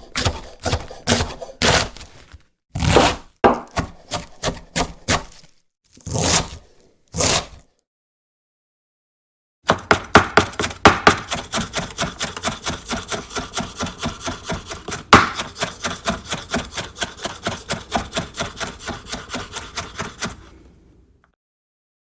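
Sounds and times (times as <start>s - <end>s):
knife chopping vegetables: 0.0s - 7.6s, 9.7s - 20.6s.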